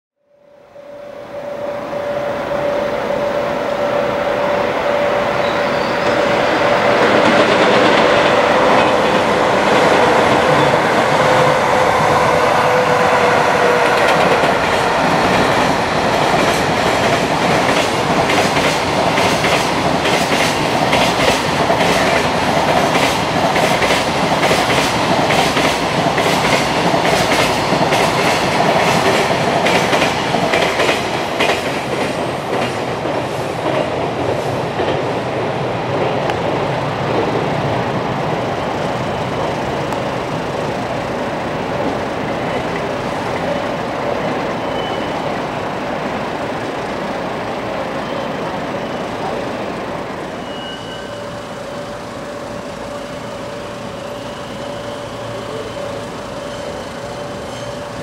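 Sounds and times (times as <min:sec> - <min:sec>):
train whine: 0:00.2 - 0:58.0.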